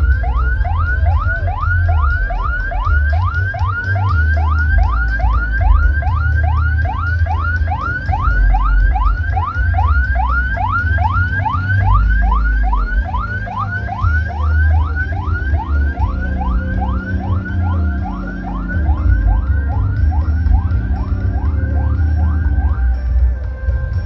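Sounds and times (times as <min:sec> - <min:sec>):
heavy pulsing bass: 0:00.0 - 0:24.0
rising siren-like whoop: 0:00.0 - 0:24.0.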